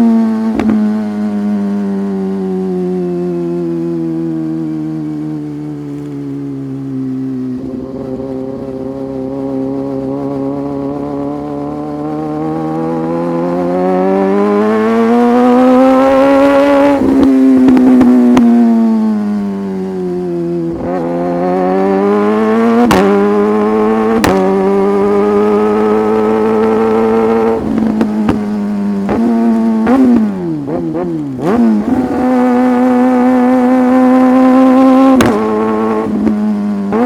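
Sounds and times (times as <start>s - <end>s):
motorcycle engine shifting gears: 0.0s - 37.0s.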